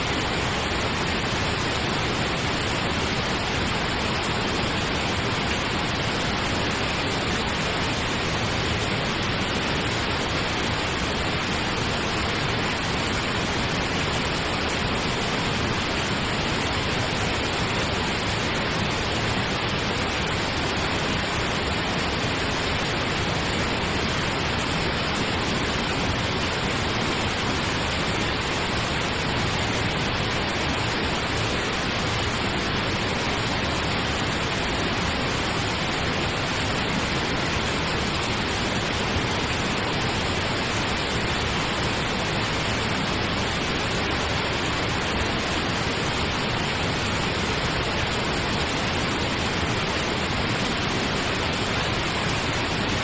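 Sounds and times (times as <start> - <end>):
pink noise hiss: 0.0 - 53.0.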